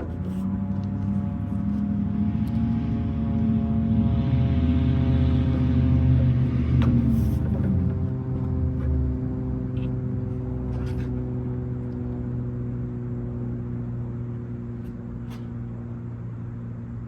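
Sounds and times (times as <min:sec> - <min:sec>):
low droning chord: 0:00.0 - 0:16.9.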